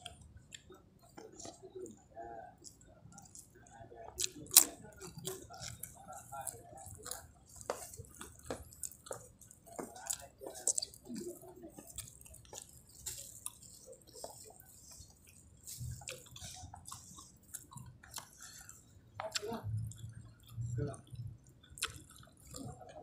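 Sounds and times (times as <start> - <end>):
wet chewing and mouth clicks: 0.0 - 1.8, 2.5 - 23.0.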